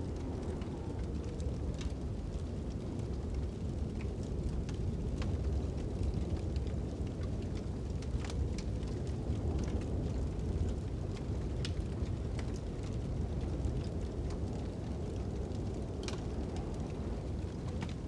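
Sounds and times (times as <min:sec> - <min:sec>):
fire crackling and popping: 0:00.0 - 0:18.0
low rumble of wind: 0:00.0 - 0:18.0.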